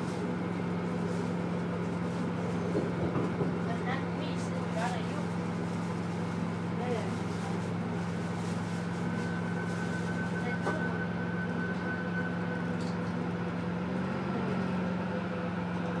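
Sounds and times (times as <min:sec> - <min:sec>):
diesel train running hum: 0:00.0 - 0:16.0.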